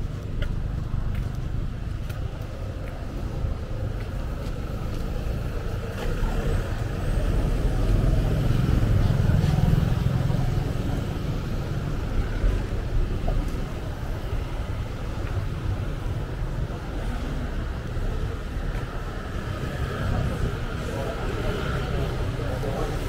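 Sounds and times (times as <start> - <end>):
vehicle engines passing: 0.0 - 23.0.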